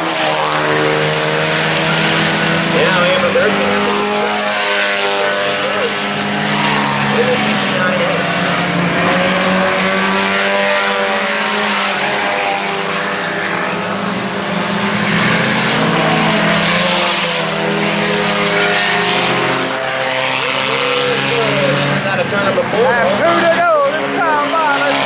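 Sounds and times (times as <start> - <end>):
race car engines running: 0.0 - 25.0.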